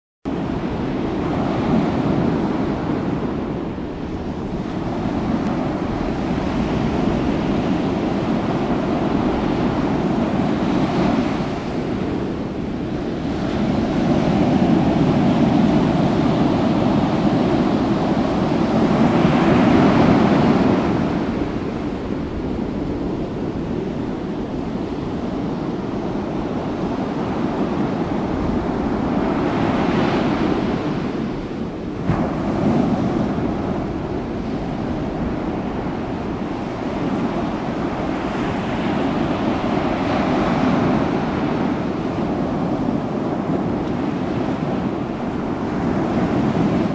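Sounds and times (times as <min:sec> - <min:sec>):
wind: 0:00.2 - 0:46.9
ocean waves: 0:00.3 - 0:46.9.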